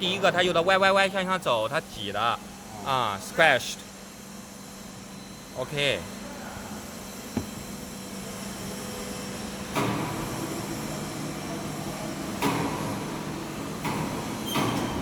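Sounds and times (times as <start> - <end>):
can filling machine humming: 2.0 - 15.0.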